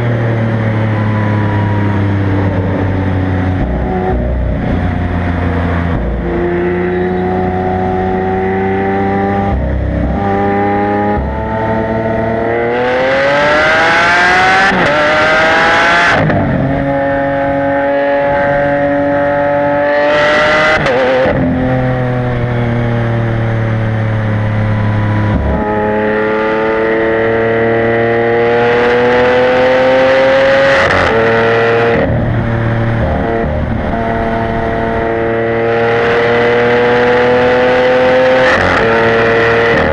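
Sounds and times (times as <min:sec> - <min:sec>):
sports car accelerating hard: 0:00.0 - 0:39.9.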